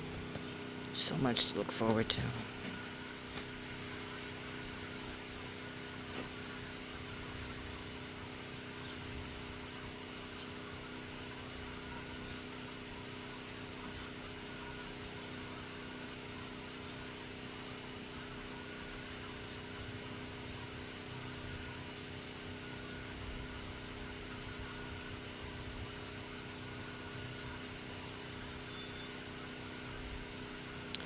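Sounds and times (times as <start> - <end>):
machine motor droning: 0.0 - 31.0.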